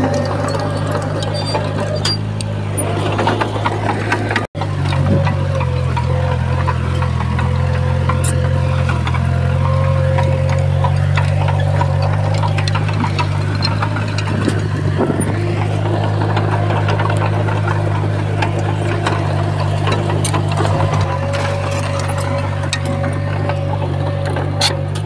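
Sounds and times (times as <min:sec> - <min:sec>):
bulldozer diesel engine running: 0:00.0 - 0:25.0
short clanks: 0:00.0 - 0:25.0.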